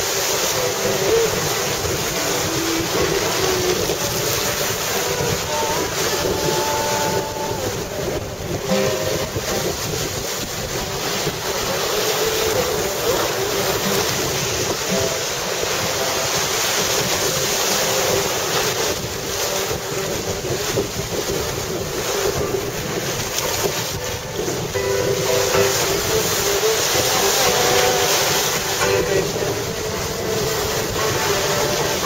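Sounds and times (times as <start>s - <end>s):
sea waves washing over rocky shore: 0.0s - 32.0s
wind buffeting microphone: 0.0s - 32.0s.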